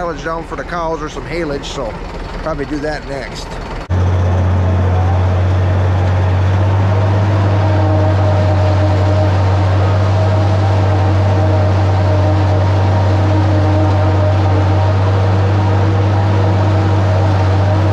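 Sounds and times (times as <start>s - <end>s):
forage harvester higher hum: 0.0s - 17.9s
tractor engine deep drone: 0.0s - 17.9s.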